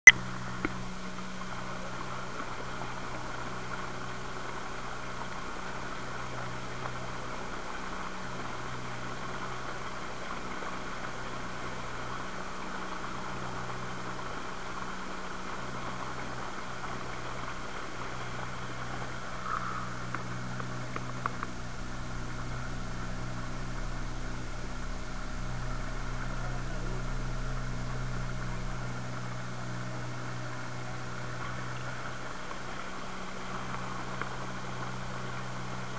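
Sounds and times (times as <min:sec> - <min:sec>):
boat motor running: 0:00.0 - 0:35.9
water splashing along hull: 0:00.2 - 0:35.9.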